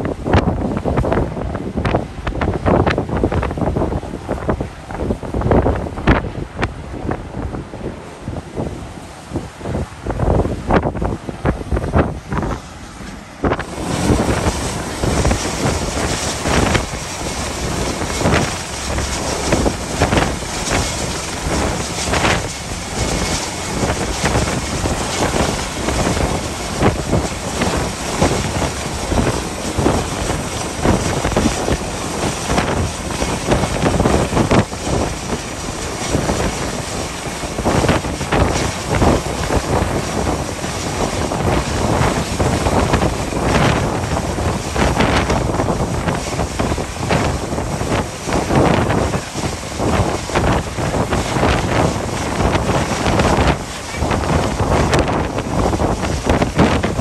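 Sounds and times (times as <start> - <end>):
gale wind buffeting microphone: 0.0 - 57.0.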